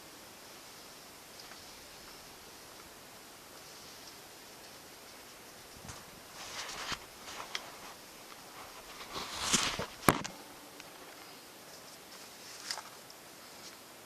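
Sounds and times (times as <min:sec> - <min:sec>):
rustling: 0:00.5 - 0:14.0.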